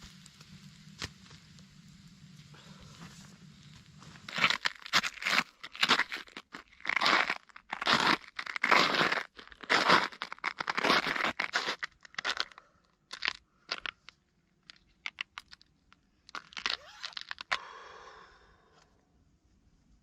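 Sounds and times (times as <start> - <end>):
sharp clicks and crackles: 0.0 - 17.6
crunching: 0.0 - 17.7.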